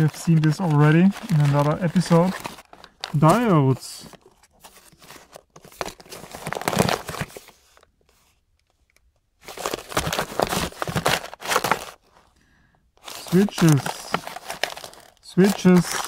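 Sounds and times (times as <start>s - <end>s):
plastic bags crinkling: 0.0s - 7.4s, 9.4s - 12.3s, 13.0s - 16.0s.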